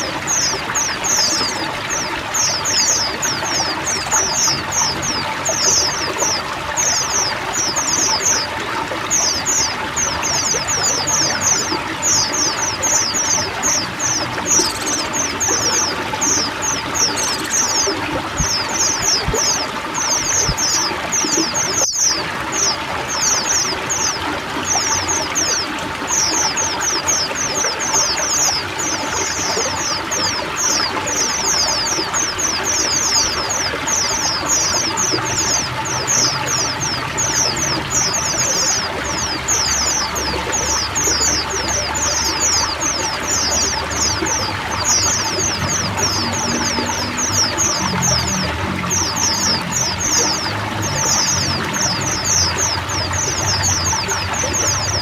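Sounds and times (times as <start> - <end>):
birds chirping: 0.0 - 55.0
running and trickling water: 0.0 - 55.0.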